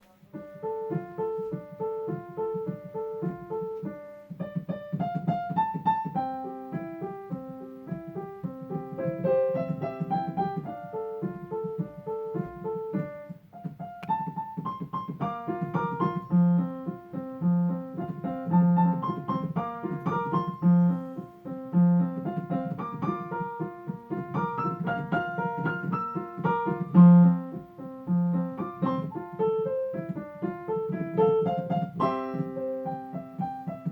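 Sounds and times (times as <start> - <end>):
solo piano music: 0.0 - 33.9.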